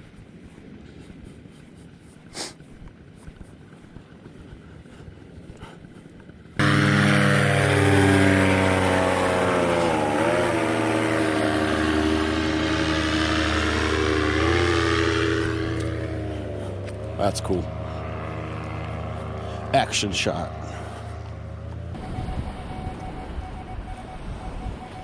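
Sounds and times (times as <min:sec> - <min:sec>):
aircraft engine: 0:00.0 - 0:25.0
faint wind: 0:00.0 - 0:25.0.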